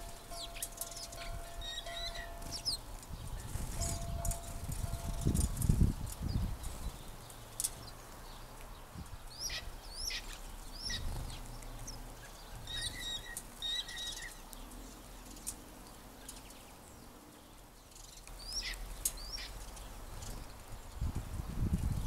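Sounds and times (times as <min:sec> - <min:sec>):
small birds calling: 0:00.0 - 0:21.2.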